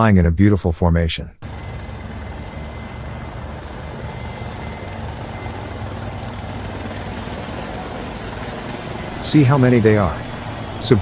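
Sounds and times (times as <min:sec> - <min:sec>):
helicopters droning: 0:01.4 - 0:11.0.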